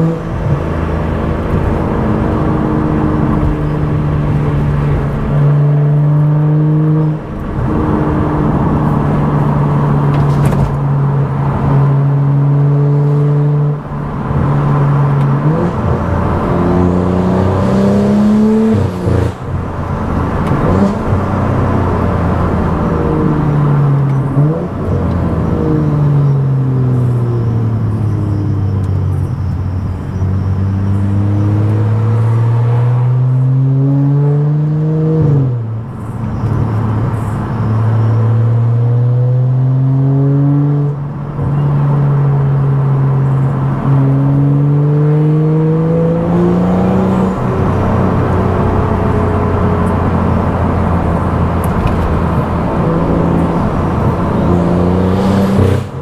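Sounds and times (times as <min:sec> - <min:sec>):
car engine revving: 0:00.0 - 0:56.0
loud exhaust: 0:00.0 - 0:56.0.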